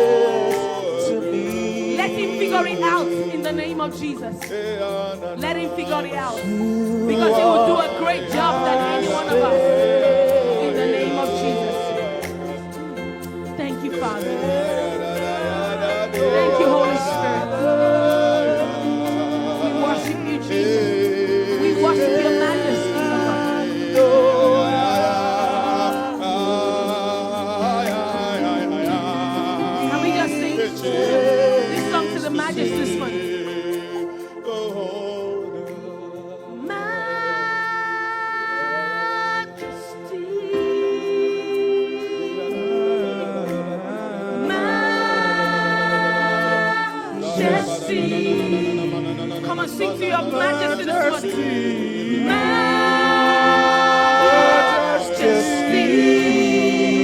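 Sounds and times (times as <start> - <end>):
person singing wordless melody: 0.0 - 57.0.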